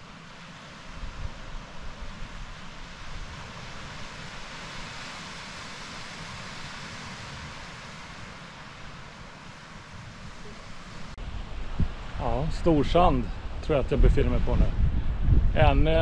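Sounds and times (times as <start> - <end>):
surf washing on sandy shore: 0.0 - 16.0
wind rumbling on microphone: 0.0 - 16.0.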